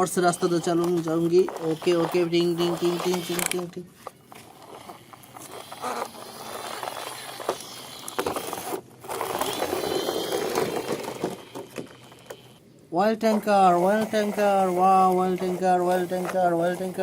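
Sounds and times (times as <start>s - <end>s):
plastic toy vehicles rattling: 0.0s - 12.6s, 13.3s - 17.0s.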